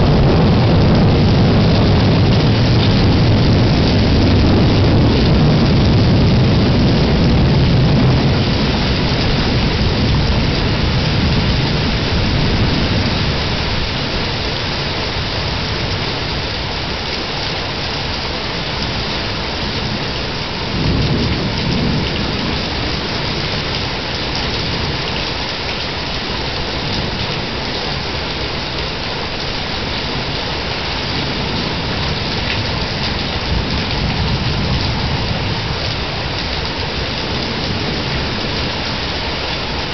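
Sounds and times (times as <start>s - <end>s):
heavy rain pouring: 0.0s - 39.9s
thunder rumbling: 0.0s - 39.9s.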